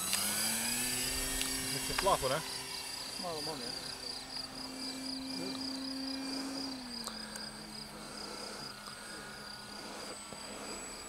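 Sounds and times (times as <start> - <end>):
model airplane propeller droning: 0.0 - 11.0
insects chirping: 0.7 - 11.0.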